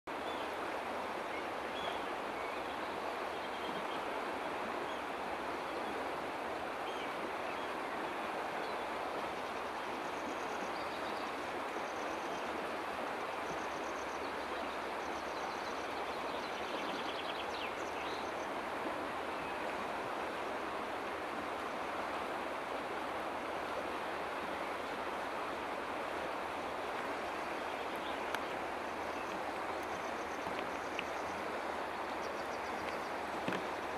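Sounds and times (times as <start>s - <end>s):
river water rushing: 0.1s - 33.9s.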